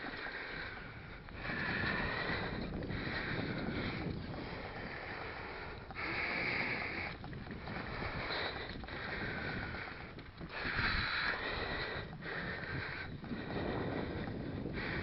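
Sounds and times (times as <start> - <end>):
bike tyres rumbling: 0.0 - 15.0
wind buffeting microphone: 0.0 - 15.0.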